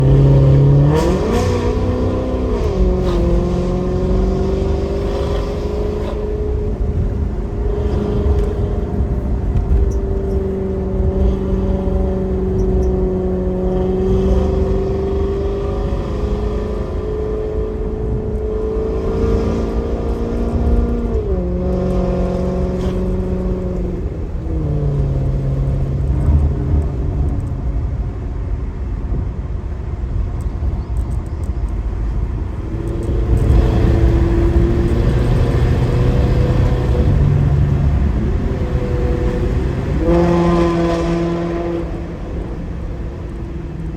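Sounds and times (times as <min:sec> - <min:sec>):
car engine while driving: 0:00.0 - 0:43.9.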